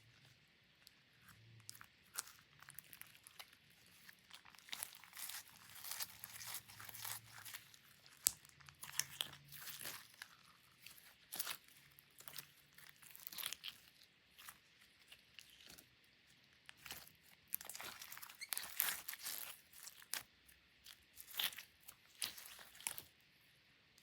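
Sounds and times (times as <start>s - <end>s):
slime crackling and popping: 0.8s - 16.0s, 16.6s - 23.1s.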